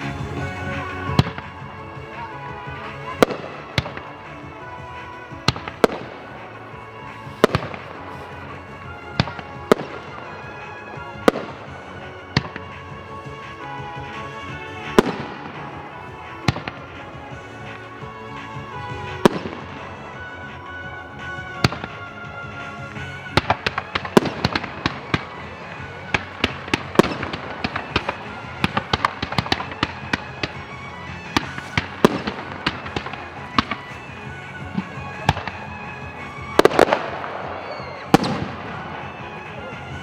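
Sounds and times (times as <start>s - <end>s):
background music: 0.0s - 40.0s
fireworks bangs and crackles: 0.0s - 40.0s.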